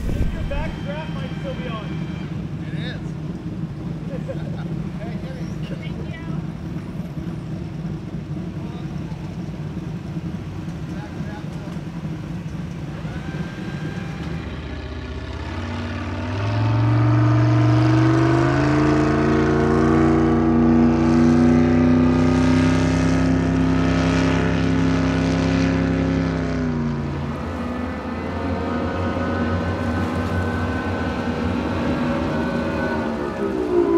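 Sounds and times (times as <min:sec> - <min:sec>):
powerboat engines running hard: 0:00.0 - 0:33.9.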